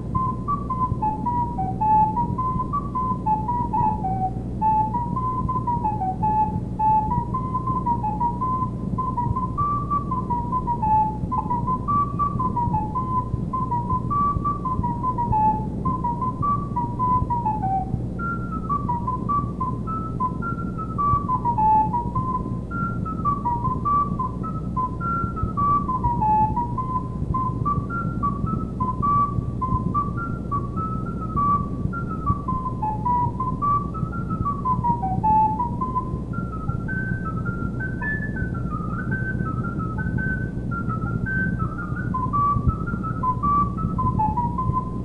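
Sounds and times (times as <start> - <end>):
recorder playing a melody: 0.0 - 45.0
steady low hum: 0.0 - 45.0.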